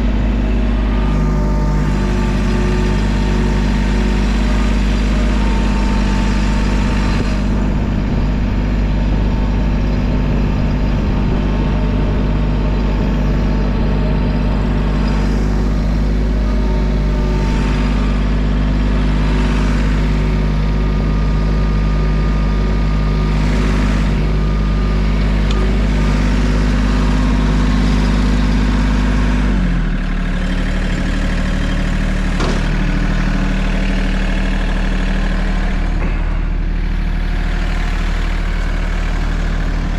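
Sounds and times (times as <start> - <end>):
large engine idling: 0.0 - 39.9.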